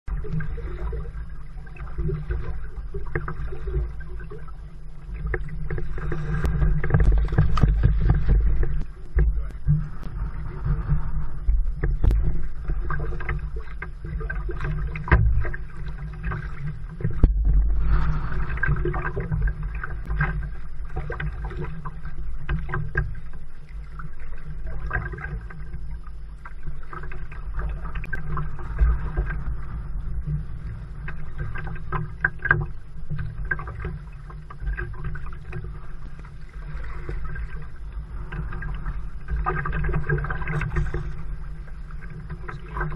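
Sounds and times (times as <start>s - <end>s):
water splashing against kayak hull: 0.1s - 42.9s
wind rumble on microphone: 0.1s - 42.9s.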